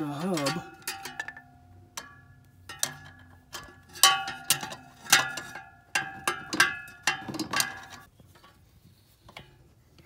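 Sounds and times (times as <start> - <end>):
wrench clanking on metal nut: 0.0 - 8.1.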